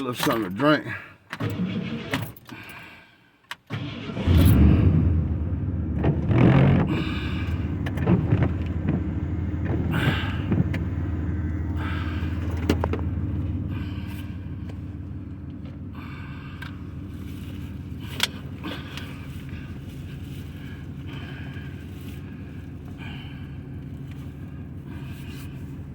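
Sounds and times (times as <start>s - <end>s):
truck engine starting and idling: 0.0s - 25.9s.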